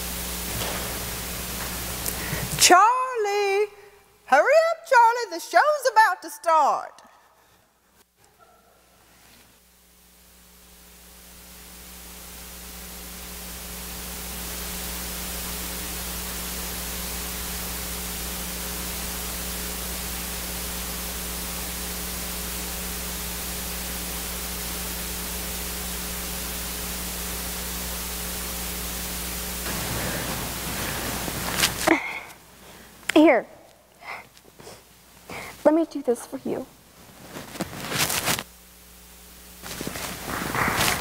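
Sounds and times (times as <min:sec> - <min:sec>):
steady hiss: 0:00.0 - 0:06.6, 0:07.4 - 0:41.0
low electrical hum: 0:00.0 - 0:41.0.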